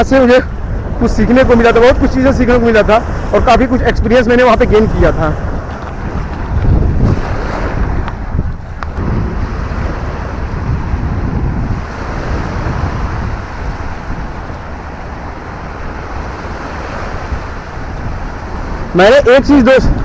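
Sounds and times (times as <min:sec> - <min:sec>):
small waves washing on sand: 0:00.0 - 0:20.0
wind buffeting microphone: 0:00.0 - 0:20.0.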